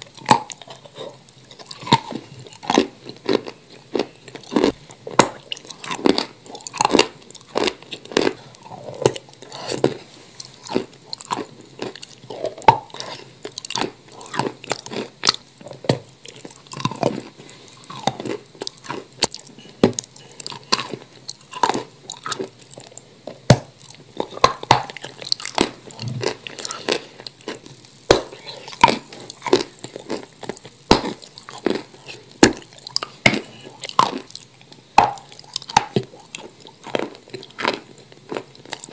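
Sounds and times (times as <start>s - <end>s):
chewing crunchy chalk: 0.1s - 23.0s, 23.8s - 38.9s.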